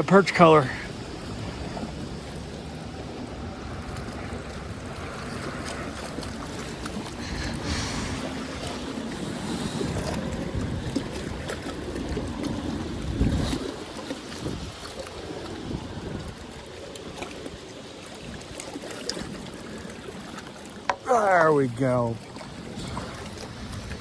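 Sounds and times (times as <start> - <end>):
small waves lapping: 0.0 - 24.0
wind buffeting microphone: 0.8 - 18.6, 21.7 - 24.0.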